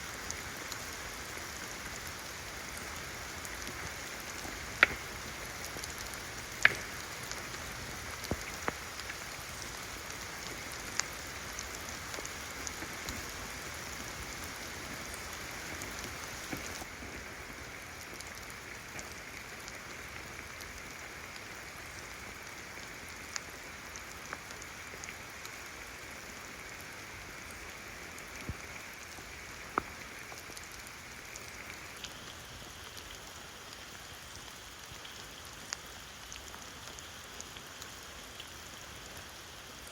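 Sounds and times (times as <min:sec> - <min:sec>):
heavy raindrops ticking close by: 0:00.0 - 0:39.9
steady rainfall: 0:00.0 - 0:39.9.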